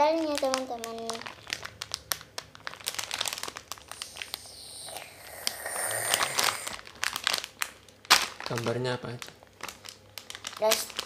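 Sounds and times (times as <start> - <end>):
plastic candy bag crinkling: 0.0 - 11.0.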